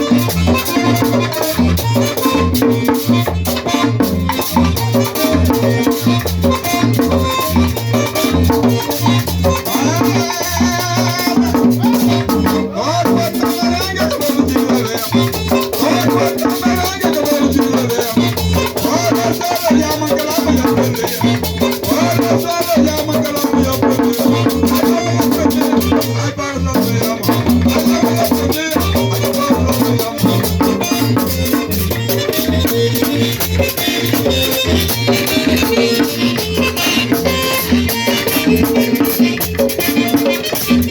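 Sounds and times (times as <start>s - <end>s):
accordion runs: 0.0s - 40.9s
drum beating: 0.0s - 40.9s
live band playing: 0.0s - 40.9s
scraper percussion: 0.0s - 40.9s.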